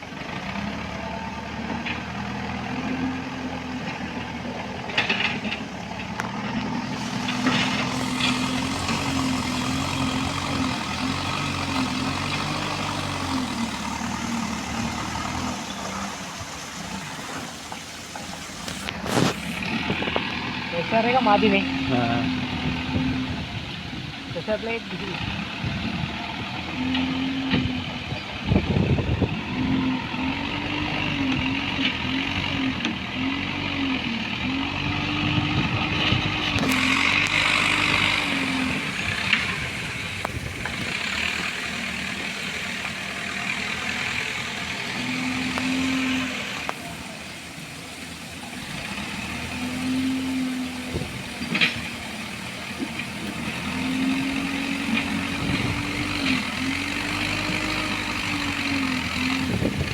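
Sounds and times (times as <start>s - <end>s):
diesel engine working: 0.0s - 59.9s.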